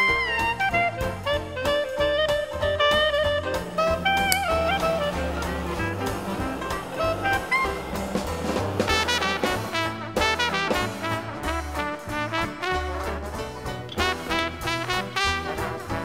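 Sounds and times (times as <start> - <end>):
swing jazz with brass horns: 0.0 - 16.0
bass line: 0.1 - 16.0.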